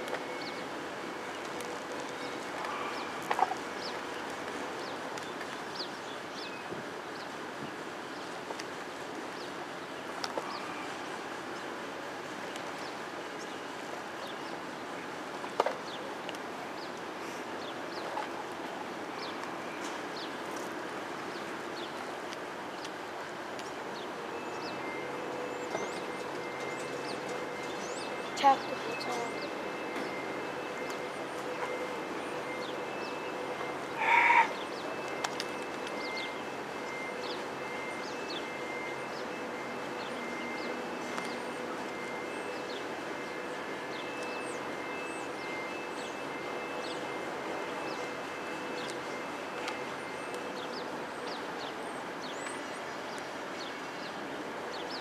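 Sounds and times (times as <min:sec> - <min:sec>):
faint constant whine: 0:00.0 - 0:55.0
steady rushing background noise: 0:00.0 - 0:55.0.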